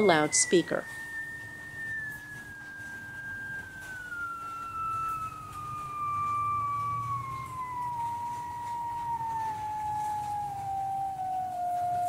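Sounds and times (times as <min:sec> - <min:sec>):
fainter higher falling tone: 0:00.0 - 0:12.0
falling whistle-like tone: 0:00.0 - 0:12.0
low hum: 0:00.0 - 0:12.0.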